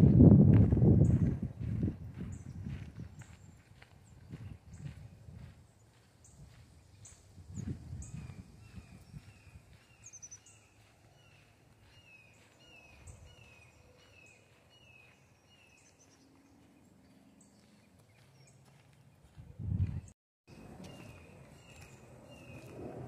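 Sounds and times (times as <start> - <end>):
bird chirping: 1.0 - 23.0.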